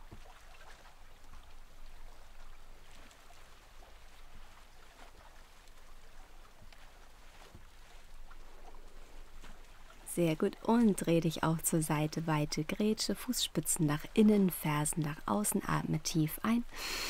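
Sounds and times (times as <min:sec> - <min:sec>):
soft ticks and rustles: 0:00.0 - 0:15.3.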